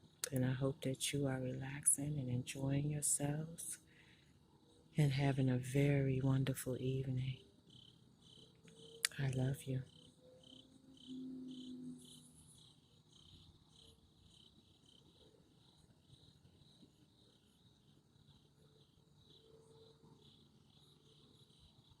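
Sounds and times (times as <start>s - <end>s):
crickets chirping: 1.3s - 5.4s, 7.2s - 22.0s.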